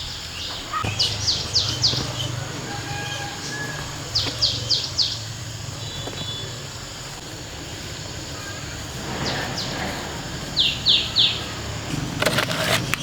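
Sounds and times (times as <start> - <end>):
small bird chirping: 0.0 - 12.0
outdoor ambient hum: 0.0 - 13.0.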